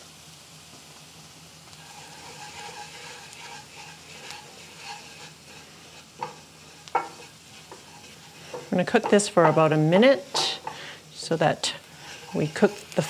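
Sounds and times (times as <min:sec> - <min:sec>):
soft sizzle: 0:00.0 - 0:13.0
wooden spoon scraping a pan: 0:01.7 - 0:13.0.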